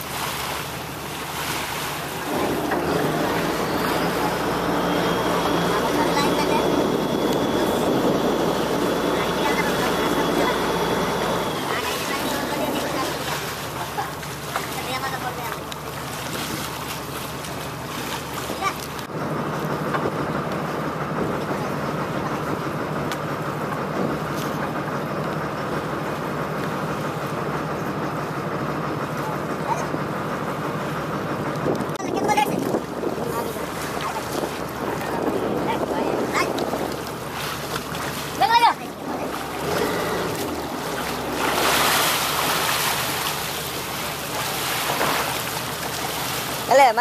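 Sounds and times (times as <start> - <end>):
boat engine humming: 0.0 - 47.0
sea noise: 0.0 - 47.0
wind: 0.0 - 47.0.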